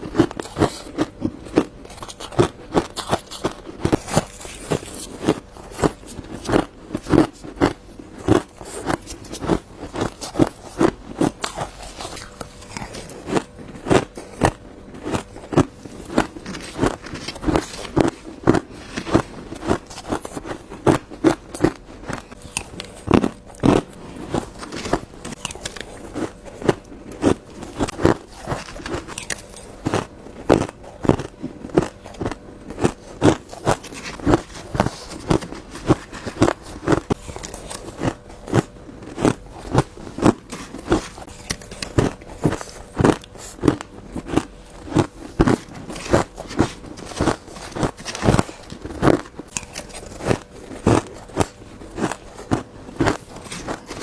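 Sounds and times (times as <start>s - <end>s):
ice cubes crunched by teeth: 0.1s - 54.0s.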